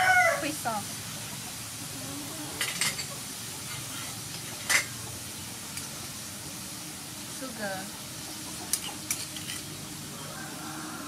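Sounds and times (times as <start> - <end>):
beef sizzling in a wok: 0.0 - 11.0.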